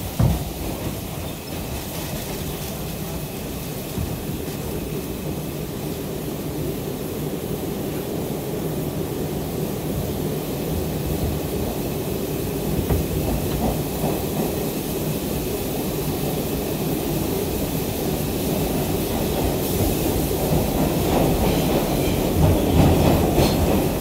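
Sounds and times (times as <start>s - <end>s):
wheels rumbling on rail: 0.0s - 24.0s.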